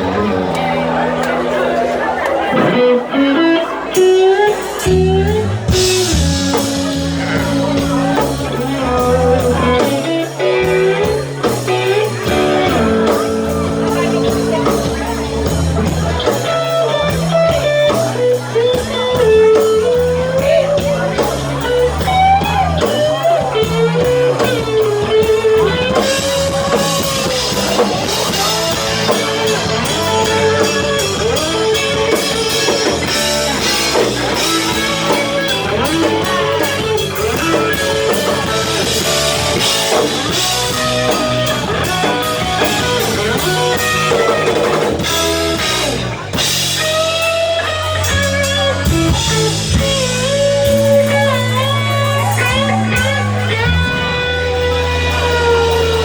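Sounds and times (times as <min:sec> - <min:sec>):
blues rock band playing: 0:00.0 - 0:56.0
lead guitar with bent notes: 0:00.0 - 0:56.0.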